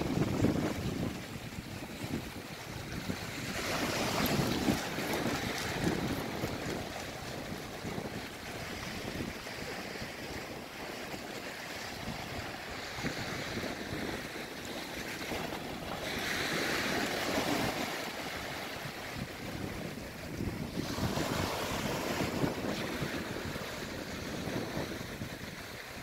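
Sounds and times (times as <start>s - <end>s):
waves washing on sandy shore: 0.0s - 26.0s
wind buffeting microphone: 0.0s - 26.0s.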